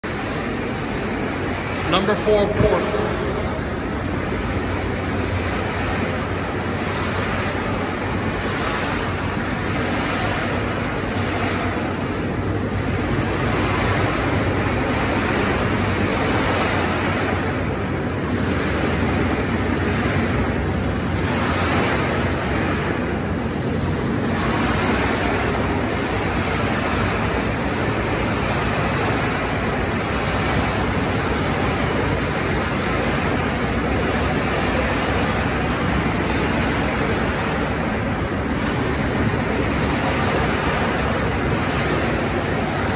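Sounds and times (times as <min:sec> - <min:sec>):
steady rushing din: 0:00.0 - 0:42.9.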